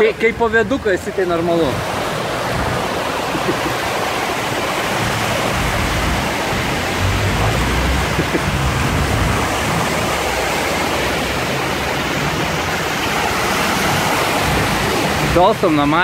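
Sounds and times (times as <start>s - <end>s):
floodwater rushing and splashing: 0.0s - 16.0s
car rumbling past: 1.6s - 15.8s.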